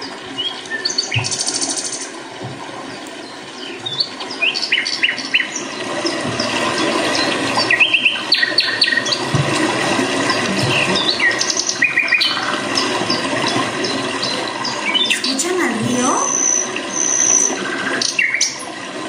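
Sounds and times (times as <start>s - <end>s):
birds chirping and calling: 0.3s - 2.2s, 3.2s - 5.8s, 6.4s - 9.2s, 10.3s - 18.7s.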